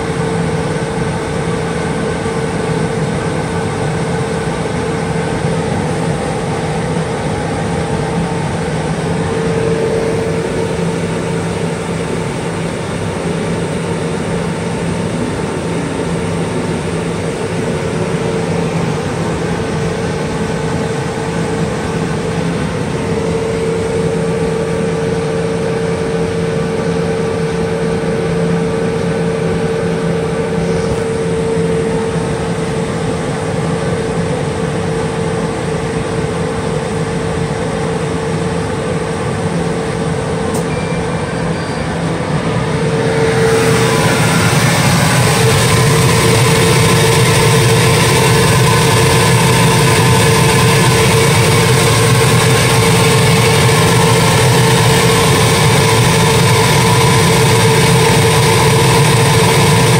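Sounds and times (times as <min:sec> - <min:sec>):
laser cutter machine hum: 0:00.0 - 0:59.9
whining tone: 0:04.4 - 0:34.0, 0:38.7 - 0:59.9.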